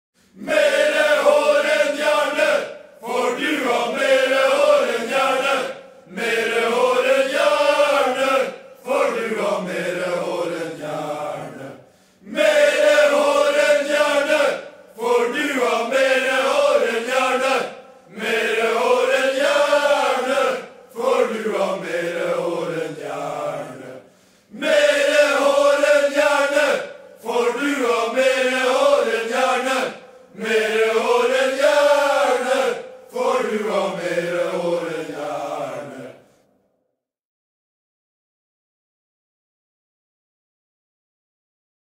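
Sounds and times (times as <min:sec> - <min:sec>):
men chanting in unison: 0:00.4 - 0:36.3.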